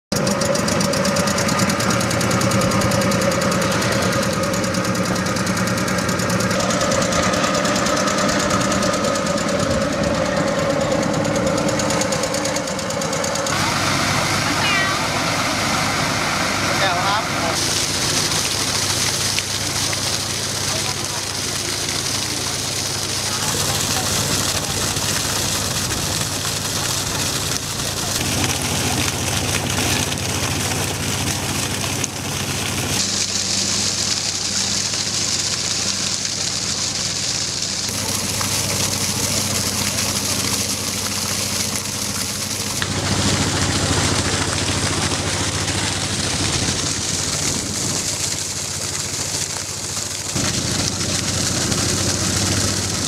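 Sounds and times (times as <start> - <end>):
truck engine humming: 0.1 - 53.0
water splashing into pool: 0.1 - 53.0.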